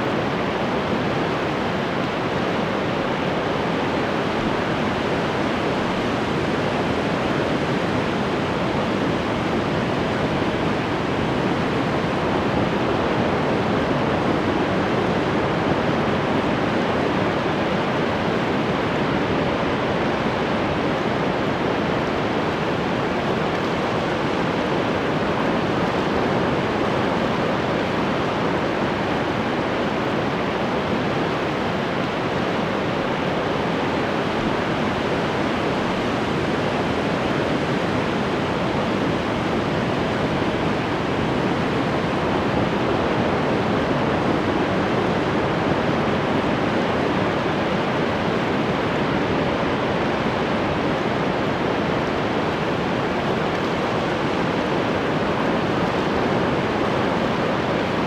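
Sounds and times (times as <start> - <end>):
ocean surf washing: 0.0 - 58.0.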